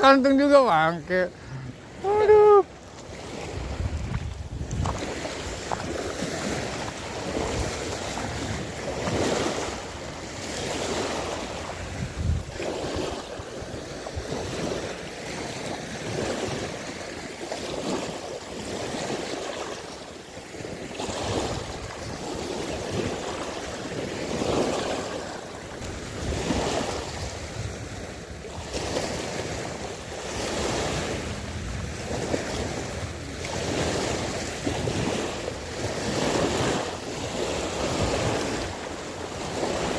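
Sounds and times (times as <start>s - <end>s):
wind buffeting microphone: 0.0s - 17.0s, 20.6s - 39.9s
sea water washing: 0.0s - 39.9s.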